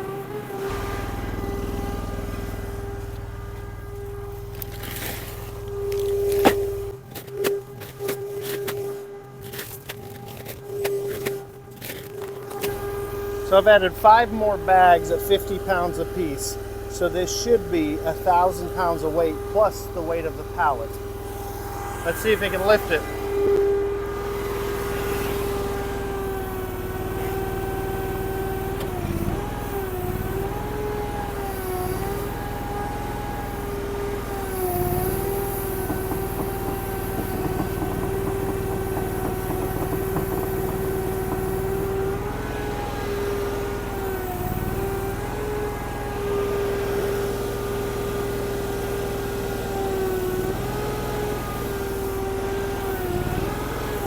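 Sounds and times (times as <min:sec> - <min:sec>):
skid steer engine running: 0:00.0 - 0:54.0.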